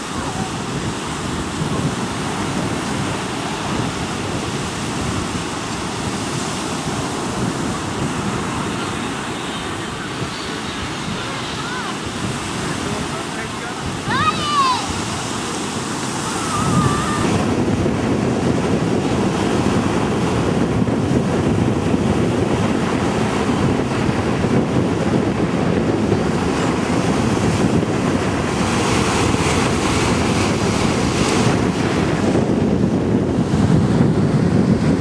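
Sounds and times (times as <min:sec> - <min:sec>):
ocean surf breaking: 0:00.0 - 0:35.0
wind buffeting microphone: 0:00.0 - 0:35.0.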